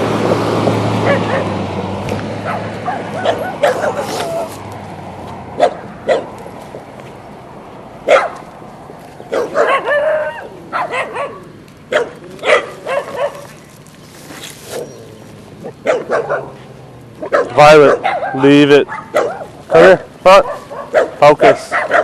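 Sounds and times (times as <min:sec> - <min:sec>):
dogs barking and yipping: 0:00.8 - 0:07.0, 0:08.0 - 0:22.0.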